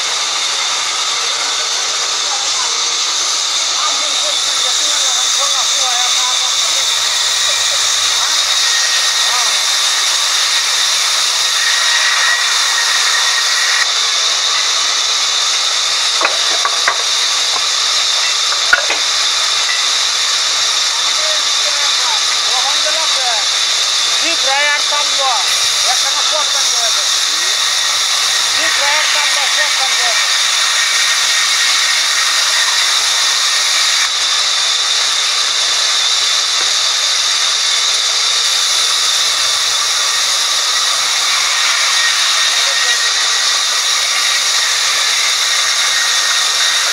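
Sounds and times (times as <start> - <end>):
band saw cutting log: 0.0 - 46.9.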